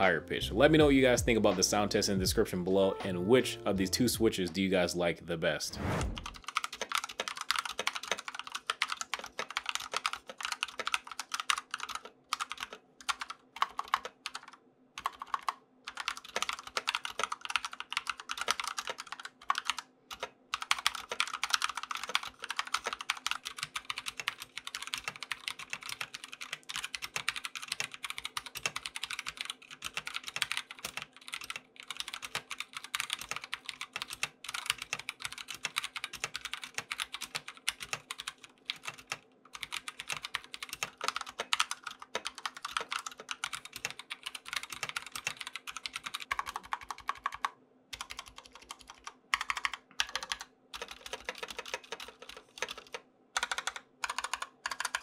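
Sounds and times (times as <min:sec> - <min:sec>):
fast typing on mechanical keyboard: 0:06.2 - 0:55.0.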